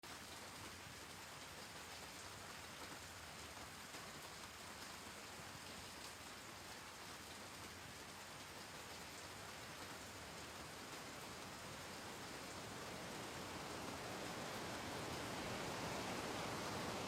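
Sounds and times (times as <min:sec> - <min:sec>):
falling water hiss and patter: 0:00.0 - 0:17.0.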